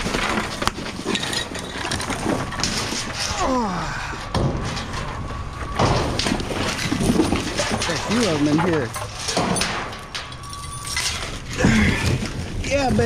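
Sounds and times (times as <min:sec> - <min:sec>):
chain clanking and scraping: 0:00.0 - 0:13.0
trash rustling: 0:00.0 - 0:13.0.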